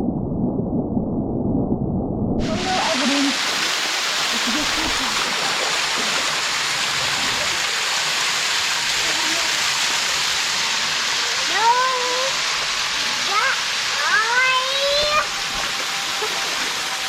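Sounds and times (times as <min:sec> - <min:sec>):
water rushing over waterfall: 0:02.4 - 0:17.0.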